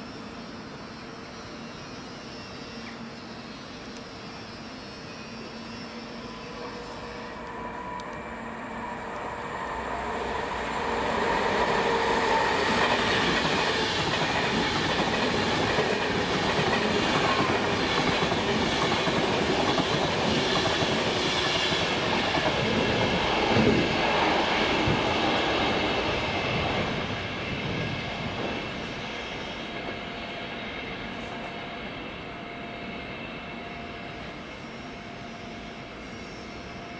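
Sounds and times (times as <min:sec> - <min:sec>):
electric train passing: 0:00.0 - 0:36.9.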